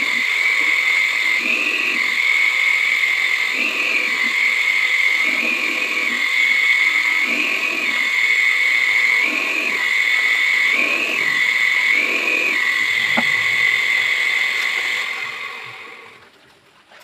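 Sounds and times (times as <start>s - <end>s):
electric drill whining: 0.0s - 16.2s.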